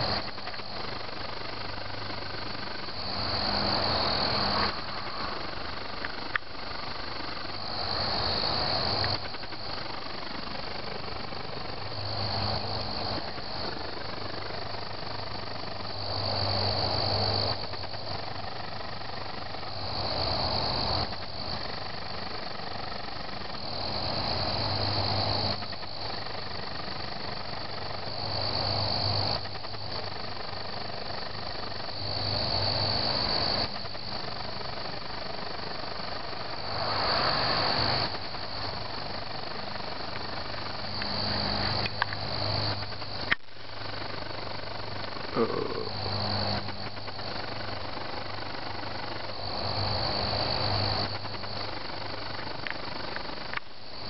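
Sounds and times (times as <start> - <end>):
crickets chirping: 0.0 - 54.0
low steady hum: 0.0 - 54.0.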